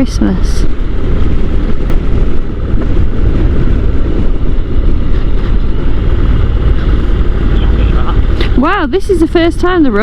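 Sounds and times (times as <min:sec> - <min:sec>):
wind buffeting microphone: 0:00.0 - 0:10.0
motorcycle engine running: 0:00.4 - 0:10.0.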